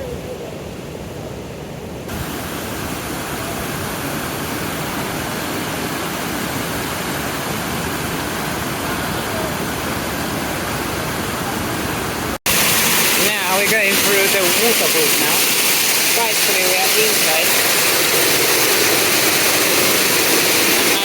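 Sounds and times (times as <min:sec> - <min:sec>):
waterfall pouring: 0:02.1 - 0:21.0.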